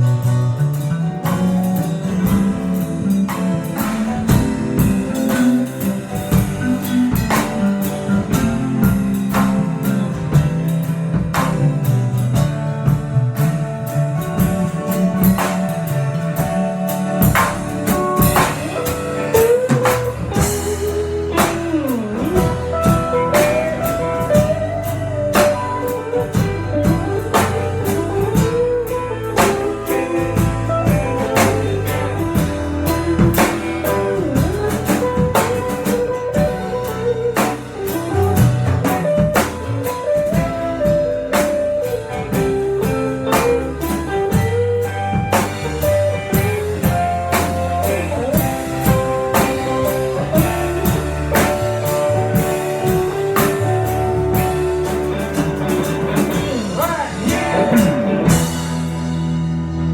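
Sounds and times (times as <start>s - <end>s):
bending guitar lines: 0.0s - 59.9s
blues band playing: 0.0s - 59.9s
drum kit beat: 0.0s - 59.9s.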